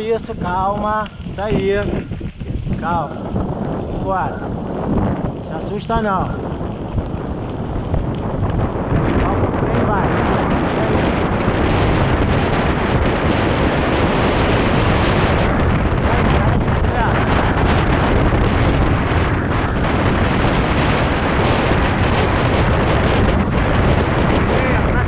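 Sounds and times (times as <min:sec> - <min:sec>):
bike tyres rolling on road: 0:00.0 - 0:25.0
wind on microphone: 0:00.0 - 0:25.0.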